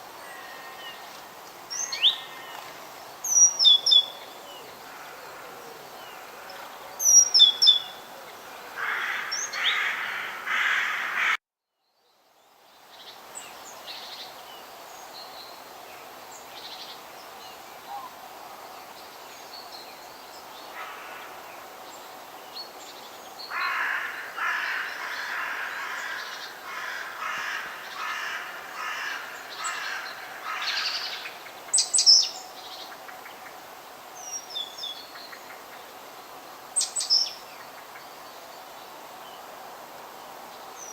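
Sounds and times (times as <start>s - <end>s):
low background hiss: 0.0s - 11.2s, 11.8s - 40.9s.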